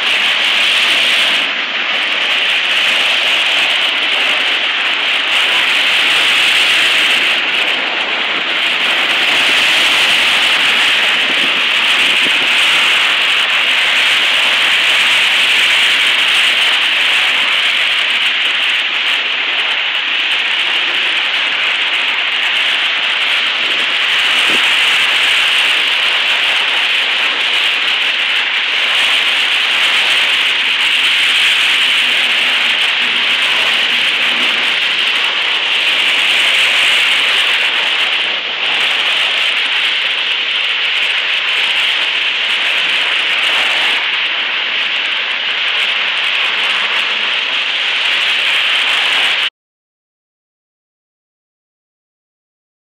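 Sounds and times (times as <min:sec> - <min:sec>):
floodwater rushing: 0:00.0 - 0:49.5.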